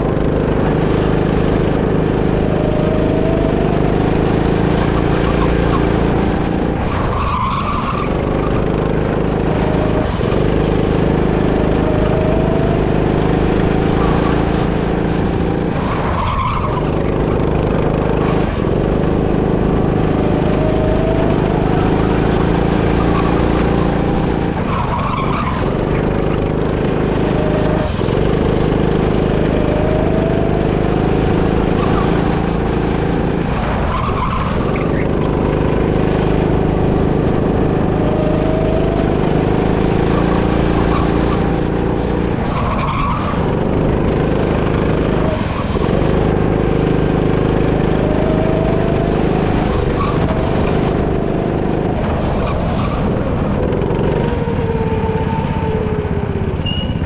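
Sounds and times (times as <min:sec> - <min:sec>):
go-kart engine accelerating: 0:00.0 - 0:57.0
tyre skid: 0:00.0 - 0:57.0.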